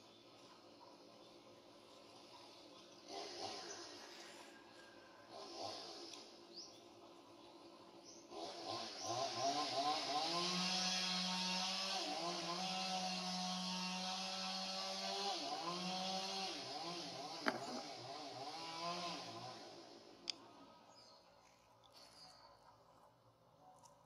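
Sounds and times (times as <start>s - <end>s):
small engine running: 0.0s - 20.3s.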